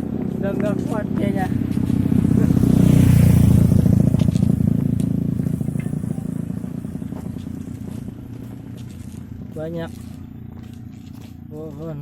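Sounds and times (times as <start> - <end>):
motorcycle engine passing: 0.0 - 11.4.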